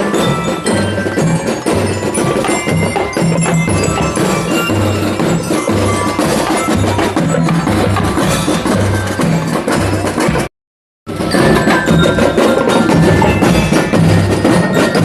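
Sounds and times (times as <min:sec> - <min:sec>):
marching band music: 0:00.0 - 0:10.5, 0:11.1 - 0:15.0.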